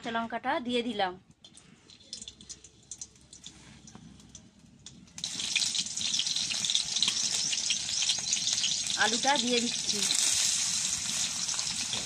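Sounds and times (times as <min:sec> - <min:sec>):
faint crackles: 0:01.3 - 0:12.0
chillies sizzling in hot oil: 0:01.6 - 0:12.0.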